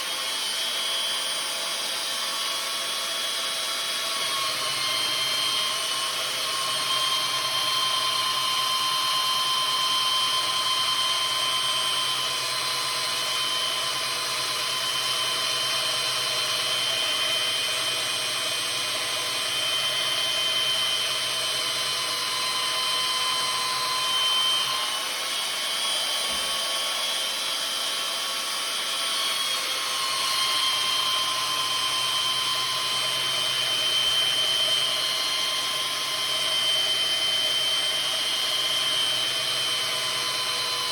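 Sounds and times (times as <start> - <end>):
electric power tool whining: 0.0 - 40.9.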